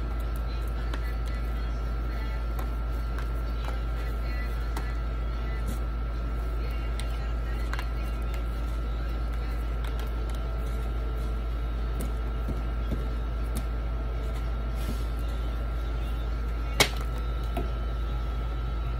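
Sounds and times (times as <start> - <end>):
low machine hum: 0.0 - 18.9
thin steady whine: 0.0 - 18.9.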